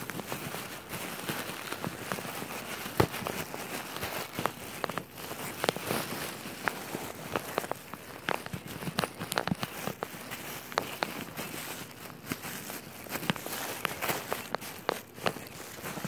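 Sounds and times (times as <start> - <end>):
crackling and rustling: 0.0 - 16.0.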